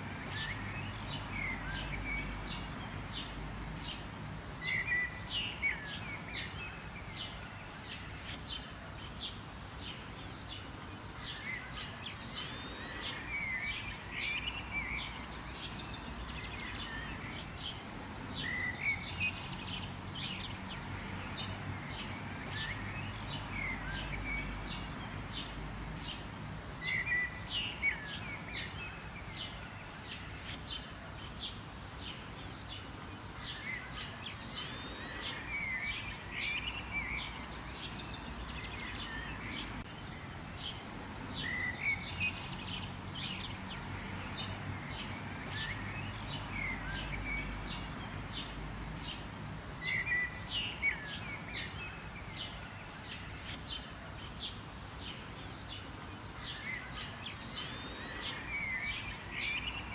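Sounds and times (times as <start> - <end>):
birds chirping: 0.0 - 59.9
outdoor background noise: 0.0 - 59.9.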